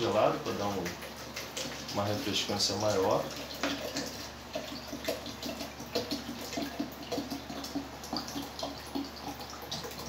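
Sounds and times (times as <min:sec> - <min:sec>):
water pouring and splashing: 0:00.0 - 0:10.0.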